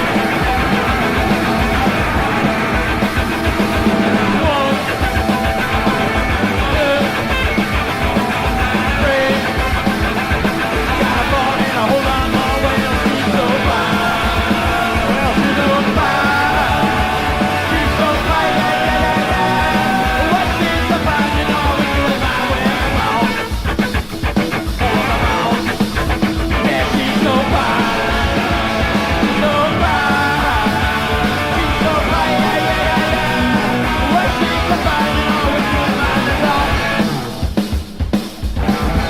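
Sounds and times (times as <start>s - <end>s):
shouted lead vocals: 0.0s - 37.7s, 38.5s - 39.0s
driving drum beat: 0.0s - 39.0s
electric guitars: 0.0s - 39.0s.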